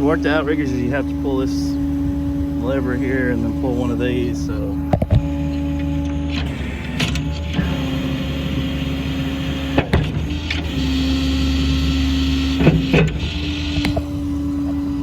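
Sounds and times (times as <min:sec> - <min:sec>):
hydraulic system hum and whine: 0:00.0 - 0:15.0.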